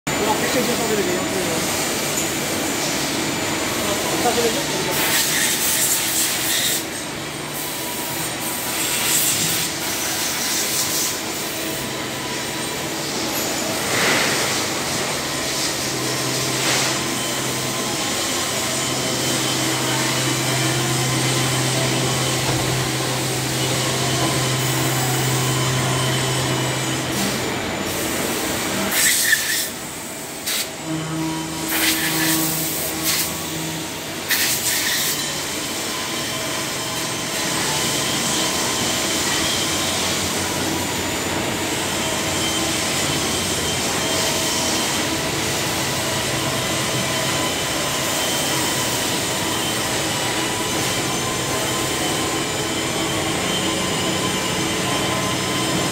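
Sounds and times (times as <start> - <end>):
milling machine hum and hiss: 0.1 - 55.9.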